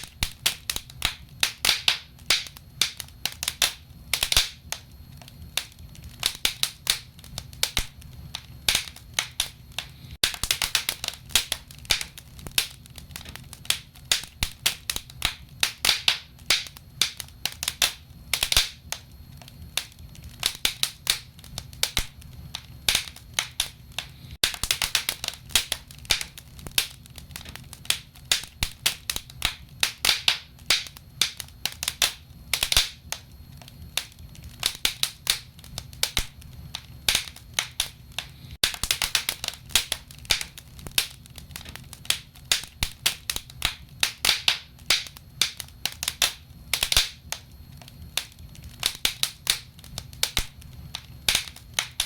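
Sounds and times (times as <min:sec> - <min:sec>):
fire crackling and popping: 0:00.0 - 0:52.0
low fire rumble: 0:00.0 - 0:52.0.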